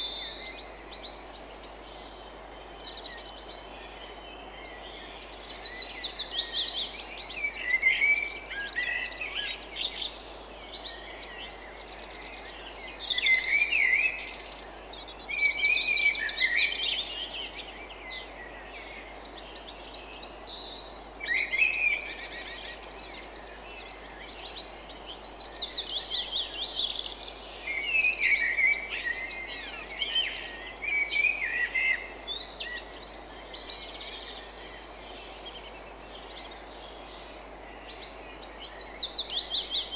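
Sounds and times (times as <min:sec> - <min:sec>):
steady background hiss: 0:00.0 - 0:39.9
wild birds singing: 0:00.0 - 0:39.9.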